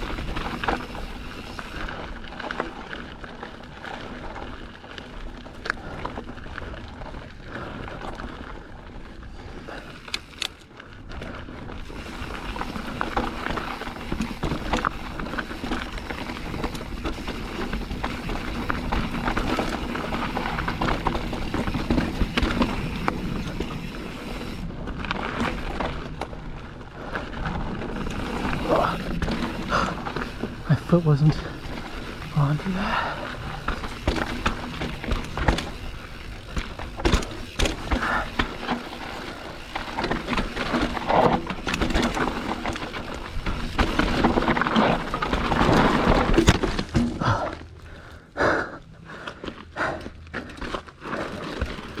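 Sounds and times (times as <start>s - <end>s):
bike rattling over bumps: 0.0s - 52.0s
bike tyres rolling on dirt: 0.0s - 52.0s.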